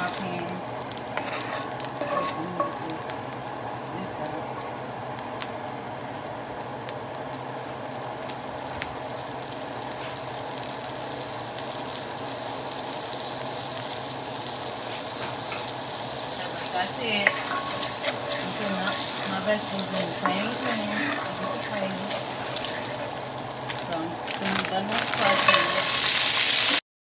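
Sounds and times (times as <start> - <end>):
butter sizzling in oil: 0.0 - 26.8.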